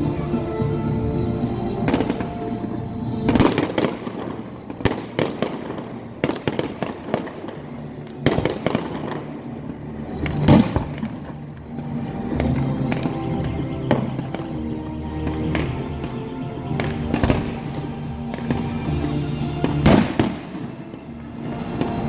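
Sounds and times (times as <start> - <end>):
fireworks cracking and banging: 3.2 - 22.0.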